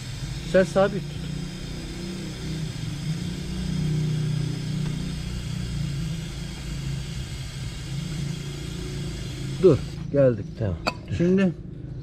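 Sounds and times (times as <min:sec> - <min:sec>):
aerosol spray hissing: 0:00.0 - 0:10.1
motorcycle engine running: 0:00.0 - 0:10.1.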